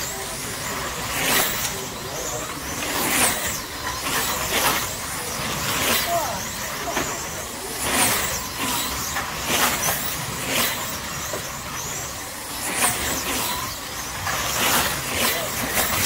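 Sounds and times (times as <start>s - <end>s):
slot car motors whining: 0.0s - 16.0s.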